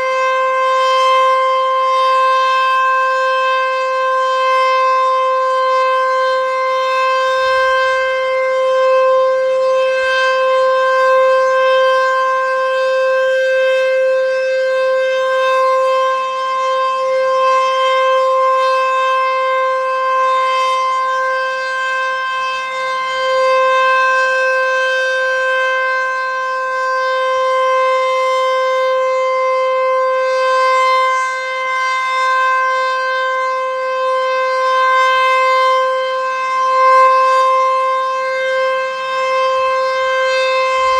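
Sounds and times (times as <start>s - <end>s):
steady warning siren: 0.0s - 40.9s.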